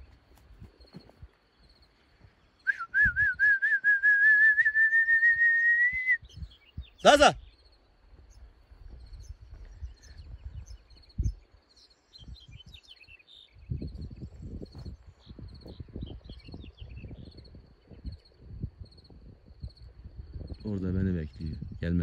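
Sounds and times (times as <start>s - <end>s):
birds twittering: 0.0s - 2.6s, 6.2s - 22.0s
crickets chirping: 0.0s - 22.0s.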